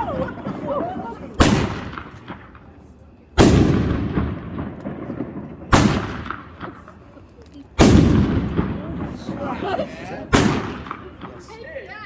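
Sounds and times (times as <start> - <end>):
firework shell booming: 0.0 - 7.1, 7.8 - 11.6.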